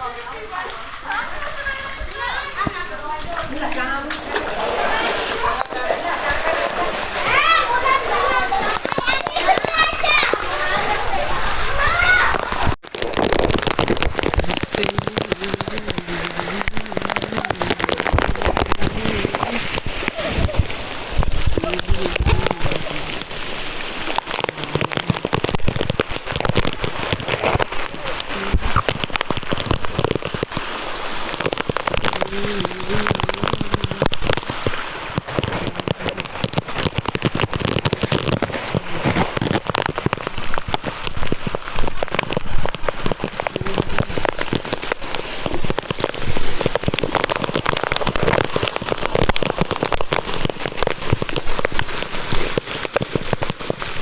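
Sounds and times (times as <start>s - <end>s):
heavy rain on hard surfaces: 0.0s - 54.0s.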